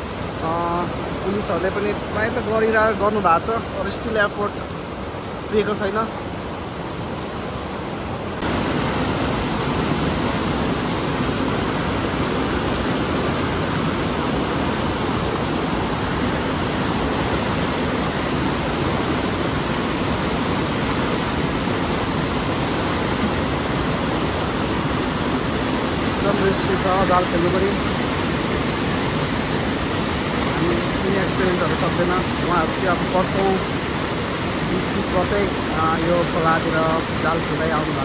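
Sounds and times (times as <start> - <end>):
river rapids rushing over boulders: 0.0 - 38.0.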